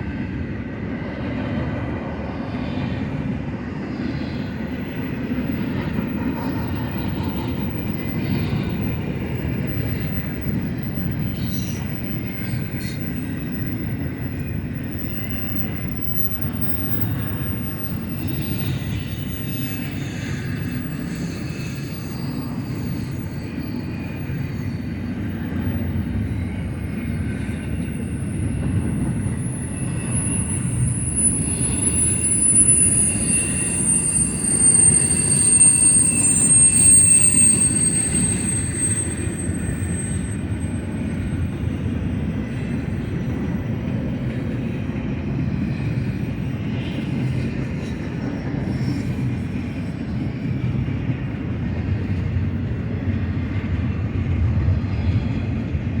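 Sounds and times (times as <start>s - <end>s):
freight train rumbling: 0.0s - 56.0s
high wheel squeal: 4.4s - 55.6s.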